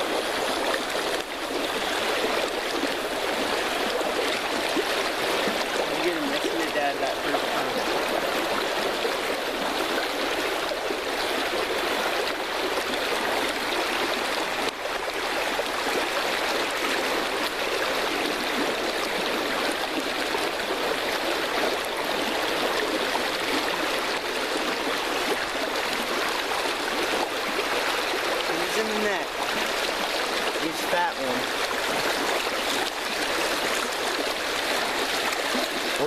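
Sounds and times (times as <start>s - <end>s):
creek water flowing: 0.0s - 36.0s.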